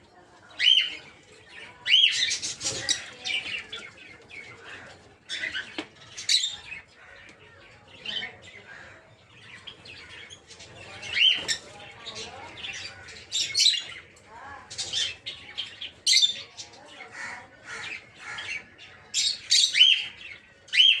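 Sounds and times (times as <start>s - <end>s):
lovebirds chirping: 0.2s - 21.0s.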